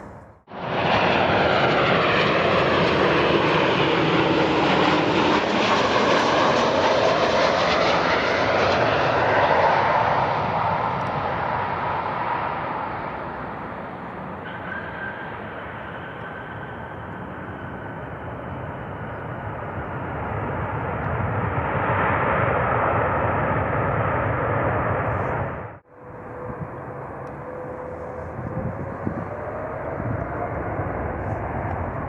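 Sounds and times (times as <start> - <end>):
jet engines roaring past: 0.0 - 32.0.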